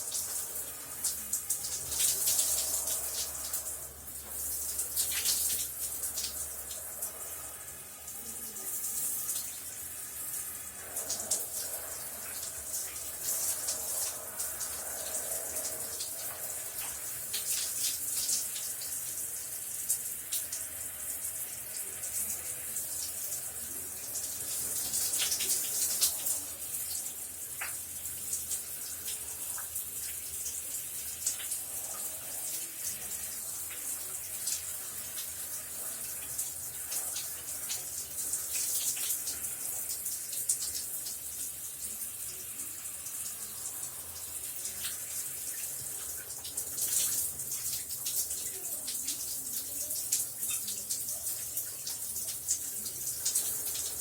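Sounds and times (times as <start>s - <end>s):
shower running: 0.0s - 54.0s
water splashes and drips: 0.0s - 54.0s.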